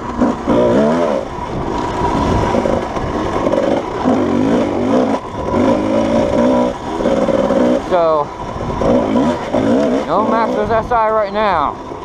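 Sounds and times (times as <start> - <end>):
dirt bike engine revving: 0.0 - 11.8.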